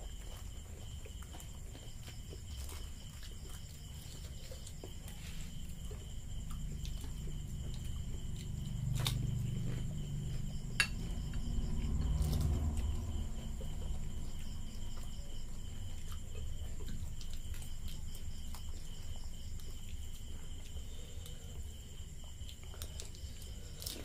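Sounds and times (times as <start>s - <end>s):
chewing: 0.0s - 11.4s, 12.0s - 24.0s.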